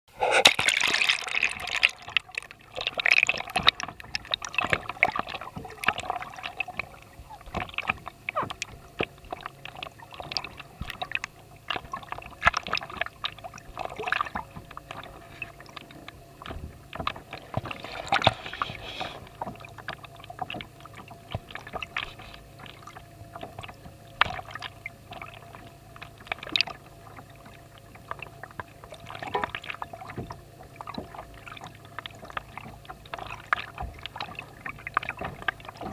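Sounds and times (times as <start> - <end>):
water sloshing and gurgling: 0.1 - 35.9.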